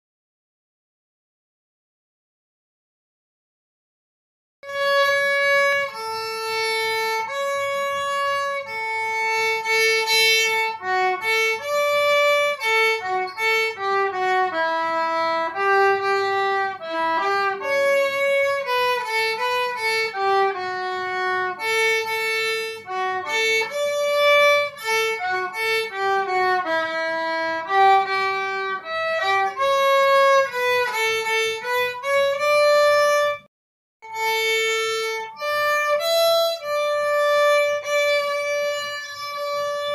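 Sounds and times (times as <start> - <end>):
violin melody: 4.6 - 39.9.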